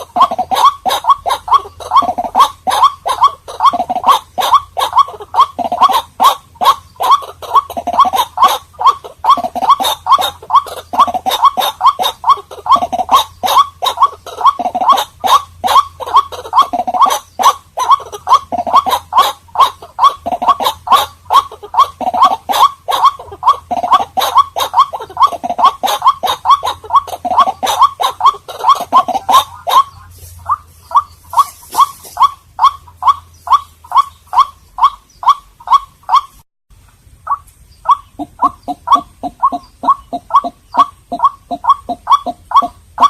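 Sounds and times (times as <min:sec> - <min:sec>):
waterhen calling harsh notes: 0:00.0 - 0:36.4, 0:37.2 - 0:43.0.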